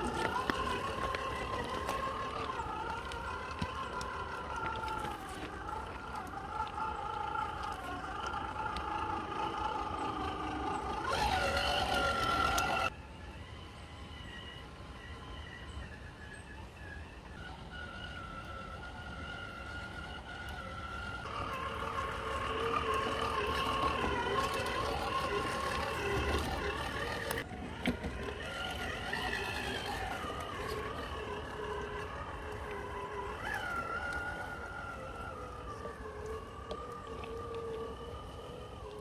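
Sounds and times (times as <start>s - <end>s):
rc car motor whine: 0.0s - 39.0s.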